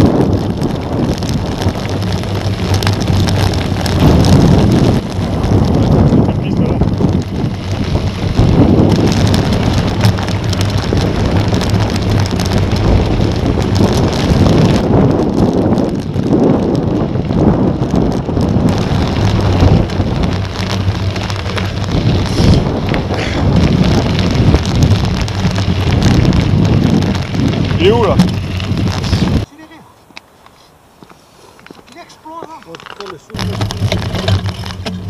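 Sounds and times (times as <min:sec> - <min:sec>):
bike clicking and rattling: 0:00.0 - 0:29.5, 0:31.5 - 0:35.0
tyres crunching on gravel: 0:00.0 - 0:35.0
wind buffeting microphone: 0:00.0 - 0:35.0.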